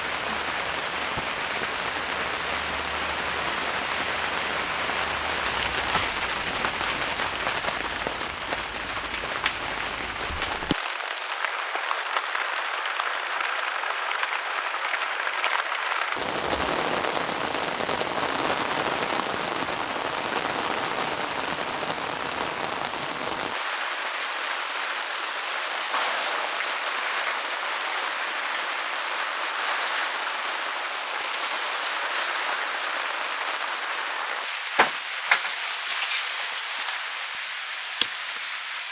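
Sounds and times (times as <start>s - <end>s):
heavy rain: 0.0s - 38.1s.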